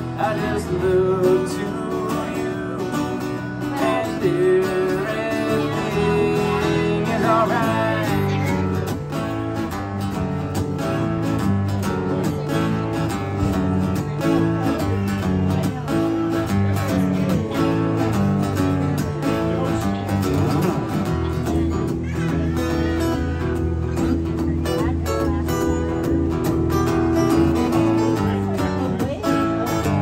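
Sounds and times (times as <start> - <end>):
guitar-led instrumental band: 0.0 - 30.0.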